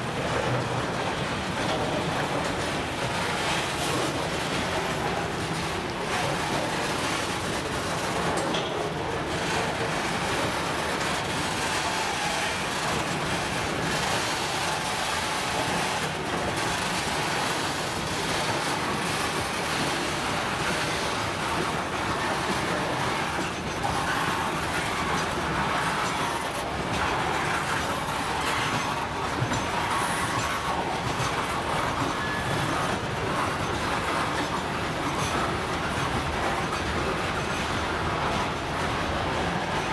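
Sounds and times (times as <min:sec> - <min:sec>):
train wheels rolling on track: 0:00.0 - 0:39.9.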